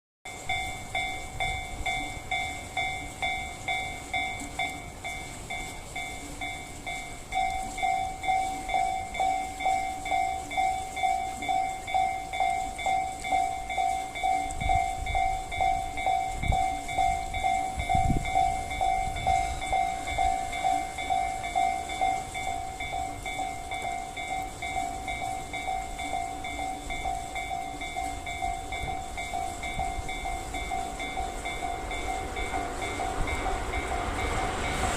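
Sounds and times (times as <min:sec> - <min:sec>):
level crossing alarm bell: 0:00.3 - 0:34.9.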